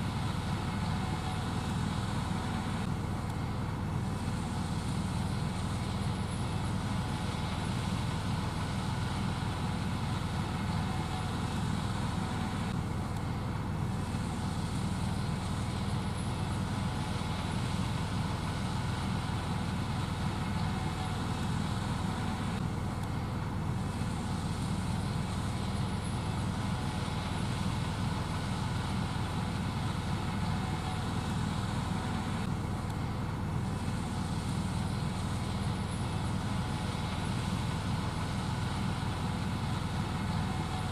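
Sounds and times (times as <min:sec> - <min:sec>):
combine harvester engine drone: 0:00.0 - 0:40.9
many-toned machinery hum: 0:00.0 - 0:40.9.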